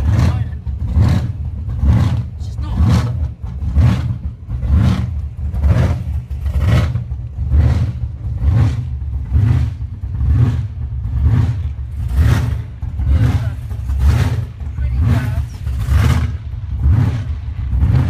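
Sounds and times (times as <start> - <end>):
hot rod engine rumbling: 0.0 - 18.0.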